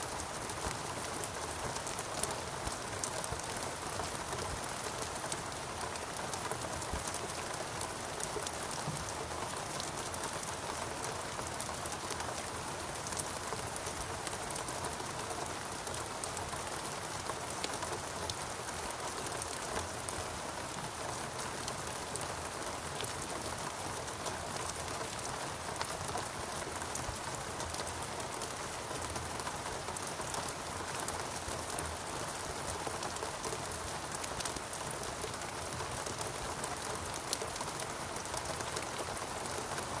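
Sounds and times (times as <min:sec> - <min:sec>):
raindrops ticking on leaves: 0:00.0 - 0:40.0
steady rain falling: 0:00.0 - 0:40.0.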